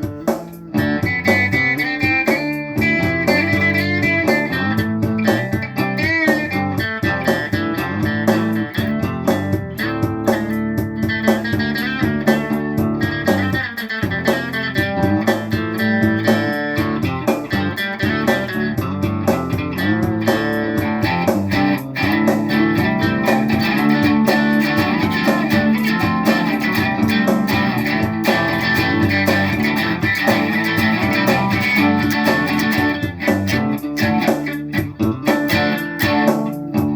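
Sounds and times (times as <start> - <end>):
instrumental rock music: 0.0 - 36.9.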